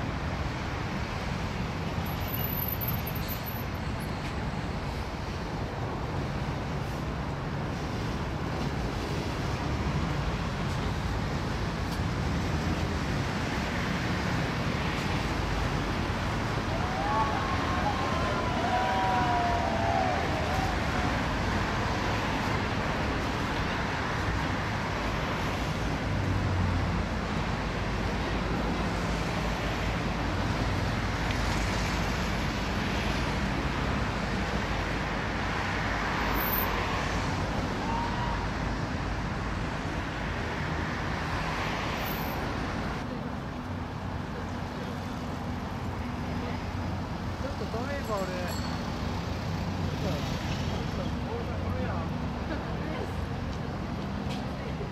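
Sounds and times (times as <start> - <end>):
city traffic rumble: 0.0 - 54.9.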